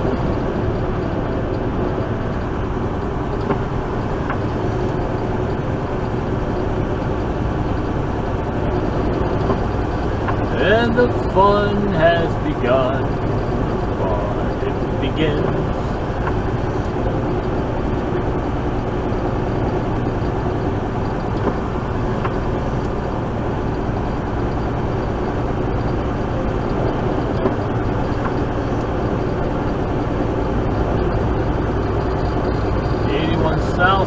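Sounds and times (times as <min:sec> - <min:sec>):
diesel engine drone: 0:00.0 - 0:34.0
road noise: 0:00.0 - 0:34.0.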